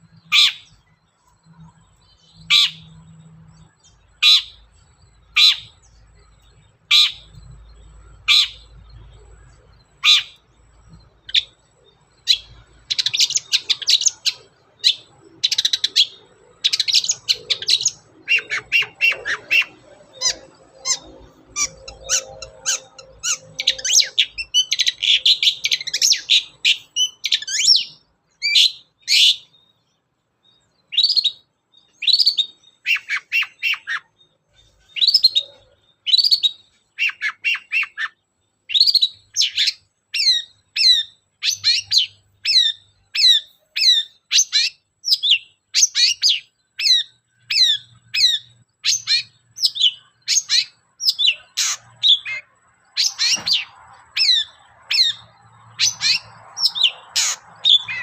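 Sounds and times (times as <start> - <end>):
shrike singing: 0.0 - 29.6, 30.8 - 58.0.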